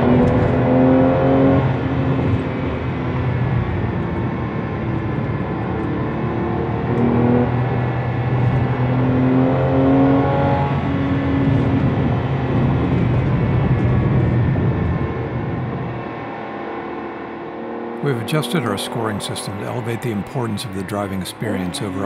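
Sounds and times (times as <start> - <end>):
car engine under load: 0.0 - 22.0
tyre and road noise: 0.0 - 22.0.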